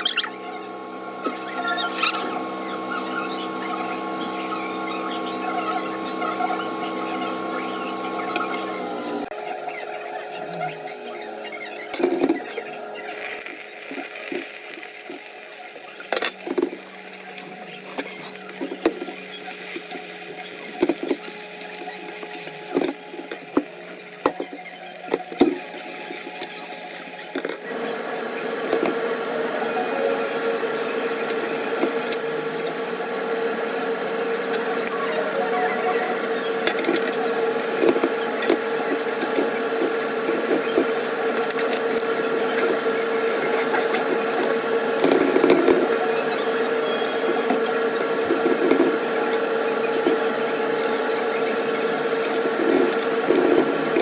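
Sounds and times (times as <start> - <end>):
motor hum with whine: 0.0 - 54.0.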